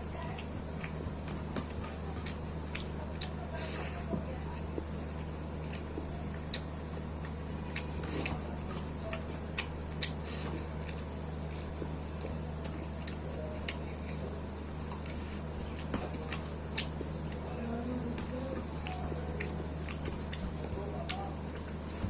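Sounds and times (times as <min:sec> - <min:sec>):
steady low hum: 0:00.0 - 0:22.0
person chewing and biting food: 0:00.4 - 0:04.0, 0:04.6 - 0:17.6, 0:18.2 - 0:22.0.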